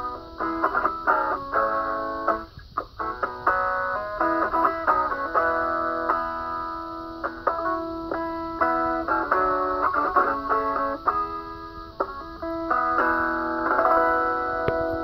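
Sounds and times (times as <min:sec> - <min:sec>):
acoustic guitar plucking and strumming: 0:00.0 - 0:15.0.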